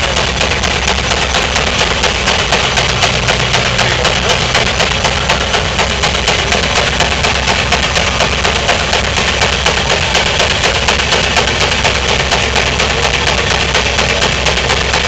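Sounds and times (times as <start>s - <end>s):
steam engine exhaust beating: 0.0s - 15.0s.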